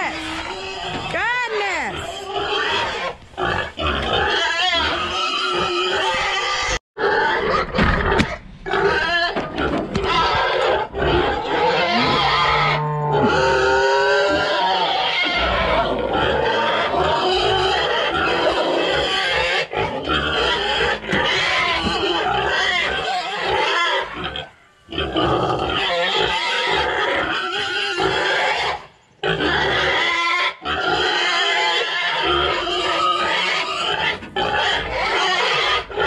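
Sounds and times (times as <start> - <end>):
hogs squealing and grunting: 0.0 - 36.0.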